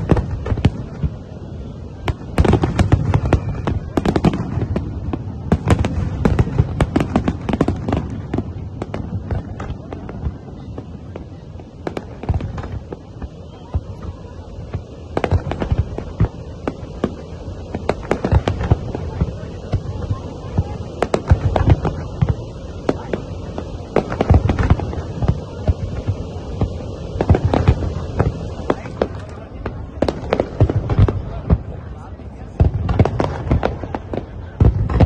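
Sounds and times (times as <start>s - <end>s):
fireworks bursting with bangs: 0.0s - 35.0s
fireworks crackling: 0.0s - 35.0s.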